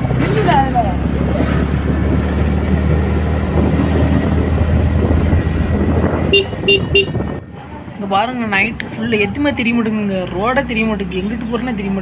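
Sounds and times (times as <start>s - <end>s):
rushing wind: 0.0s - 11.0s.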